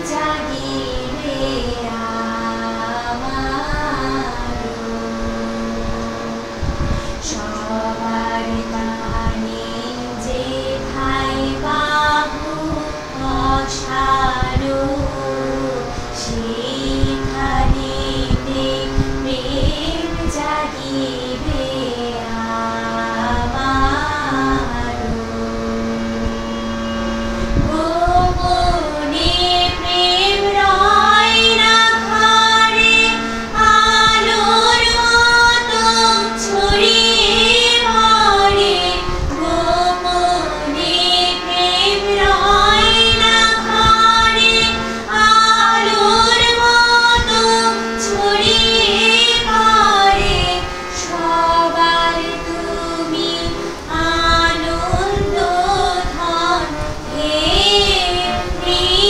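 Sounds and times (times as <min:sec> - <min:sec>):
woman singing slow melody: 0:00.0 - 0:04.8, 0:07.1 - 0:25.1, 0:27.6 - 0:59.0
steady low drone: 0:00.0 - 0:59.0.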